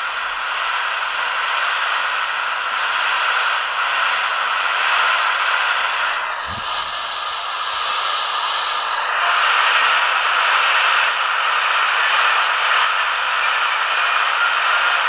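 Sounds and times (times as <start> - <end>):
radio static hiss: 0.0 - 15.0
weak radio signal: 0.0 - 15.0.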